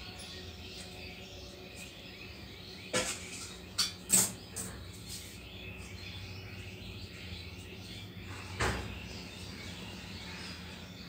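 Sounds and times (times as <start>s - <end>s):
birds chirping: 0.0s - 11.0s
steady background noise: 0.0s - 11.0s.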